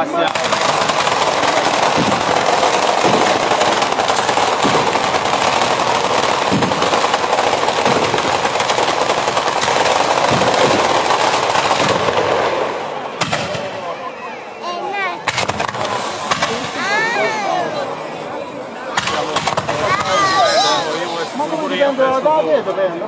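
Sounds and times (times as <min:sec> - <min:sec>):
heavy firework bangs: 0:00.0 - 0:14.0, 0:15.2 - 0:18.0, 0:18.9 - 0:21.7
firecrackers rattling: 0:00.0 - 0:22.2.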